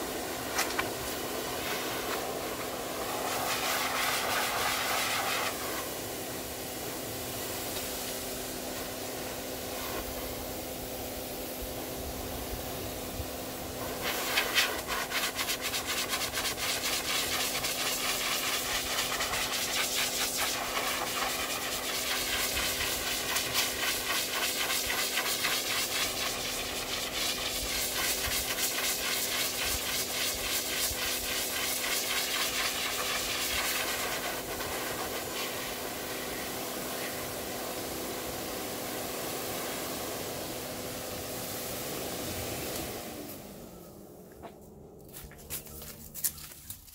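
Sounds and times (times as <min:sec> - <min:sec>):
dog dryer blowing air: 0:00.0 - 0:44.2.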